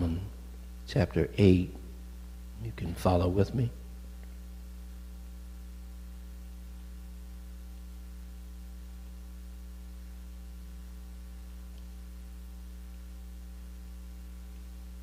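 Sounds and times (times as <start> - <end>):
electrical mains hum: 0.0 - 15.0
faint hiss: 0.0 - 15.0.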